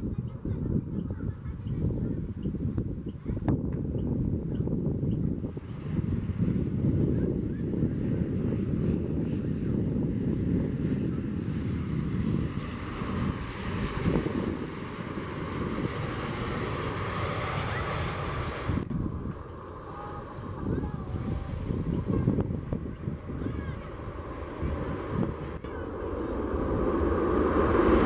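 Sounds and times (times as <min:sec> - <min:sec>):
jet engine high whine: 0:00.0 - 0:28.0
jet engines low rumble: 0:00.0 - 0:28.0.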